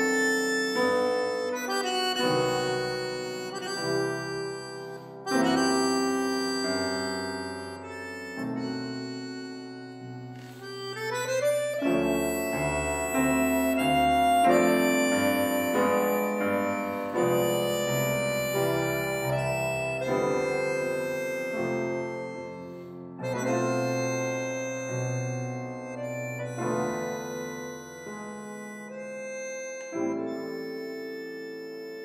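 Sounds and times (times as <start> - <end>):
accordion chords: 0.0 - 32.0
grand piano playing: 0.0 - 32.0.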